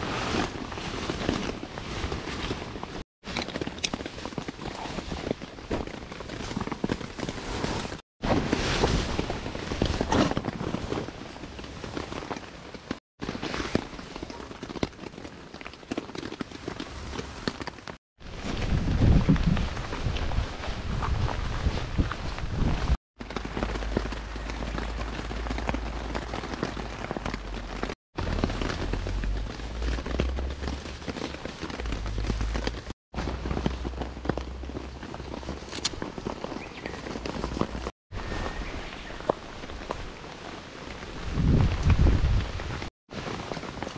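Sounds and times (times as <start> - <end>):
backpack and tent fabric rustling: 0.0 - 43.9
rain pattering on a tarp: 0.0 - 43.9.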